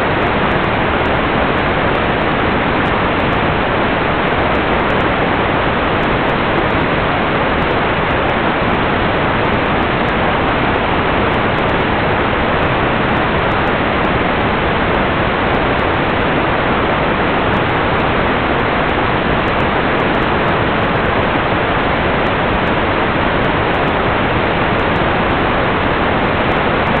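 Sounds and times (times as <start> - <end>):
loud static hiss: 0.0 - 27.0.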